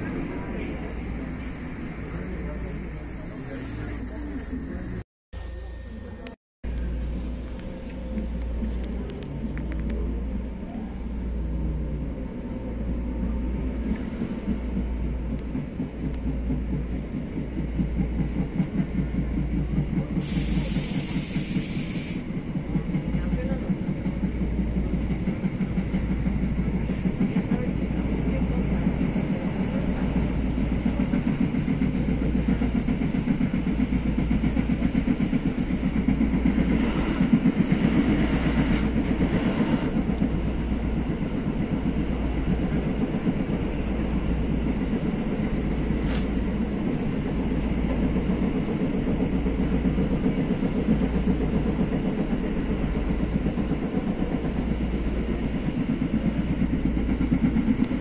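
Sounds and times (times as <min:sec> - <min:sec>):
train rumbling and rattling: 0:00.0 - 0:58.0.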